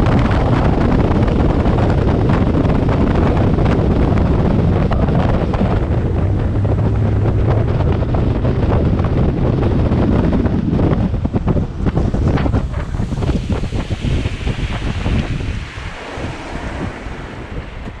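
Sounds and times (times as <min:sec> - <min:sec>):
water rushing along hull: 0:00.0 - 0:18.0
wind buffeting microphone: 0:00.0 - 0:18.0
outboard motor running: 0:02.9 - 0:18.0.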